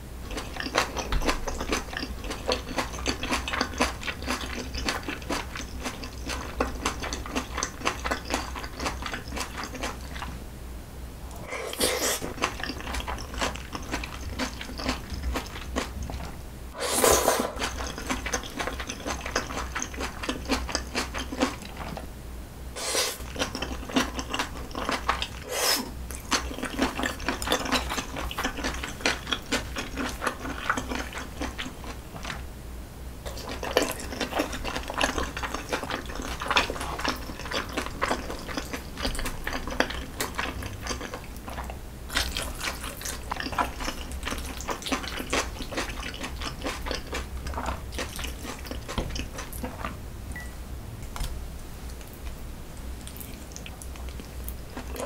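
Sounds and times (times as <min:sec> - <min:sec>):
food crunching: 0:00.2 - 0:10.4, 0:11.3 - 0:16.4, 0:17.2 - 0:22.1, 0:23.1 - 0:32.4, 0:33.3 - 0:50.0, 0:51.2 - 0:55.0.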